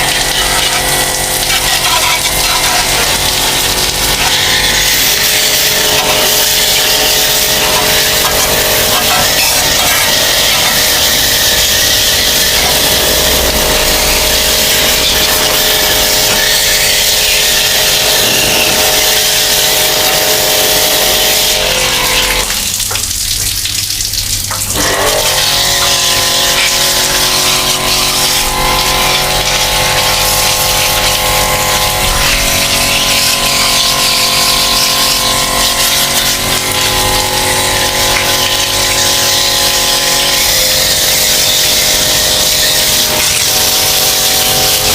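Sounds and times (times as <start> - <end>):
machine humming: 0.0 - 44.9
water spraying: 0.0 - 44.9.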